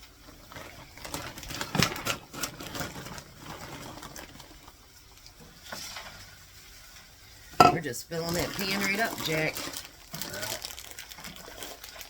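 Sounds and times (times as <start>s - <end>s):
frozen vegetables rattling into pan: 0.0s - 6.7s, 8.1s - 12.0s.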